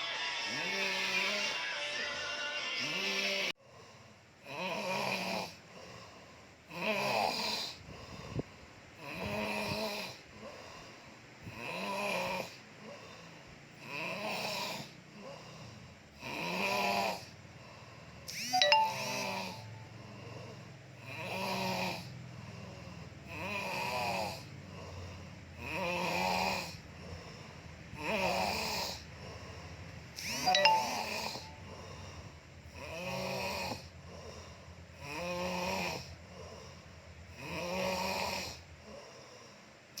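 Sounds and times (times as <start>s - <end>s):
person snoring: 0.4s - 8.4s, 9.0s - 17.9s, 18.5s - 29.6s, 30.2s - 39.6s.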